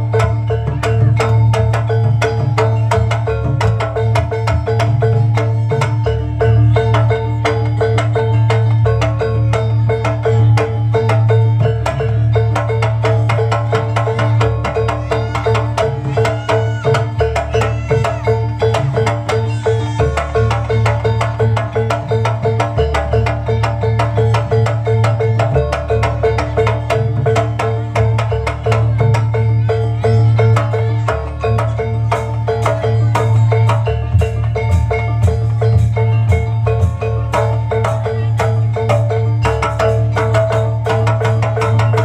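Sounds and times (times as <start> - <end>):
drums: 0.0 - 42.0
low sustained bass: 0.0 - 42.0
struck metal mallet instruments: 0.0 - 42.0.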